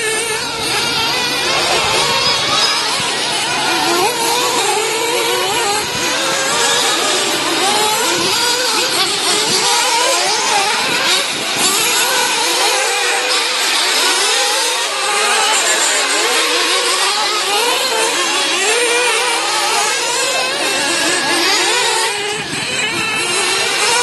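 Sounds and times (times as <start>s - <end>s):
rc car engines buzzing: 0.0s - 24.0s.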